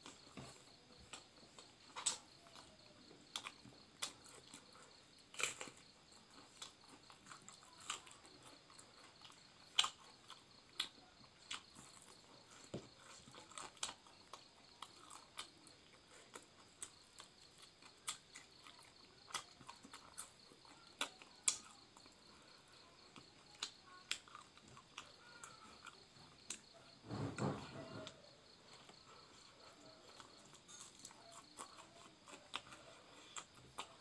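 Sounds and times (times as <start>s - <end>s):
chewing and lip-smacking: 0.0s - 26.8s, 28.7s - 34.0s
crickets chirping: 0.0s - 34.0s.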